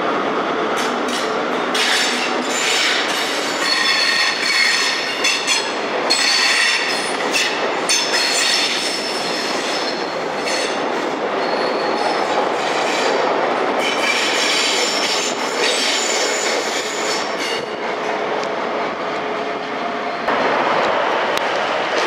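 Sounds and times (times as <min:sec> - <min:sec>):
train wheels rumbling and clacking: 0:00.0 - 0:22.0.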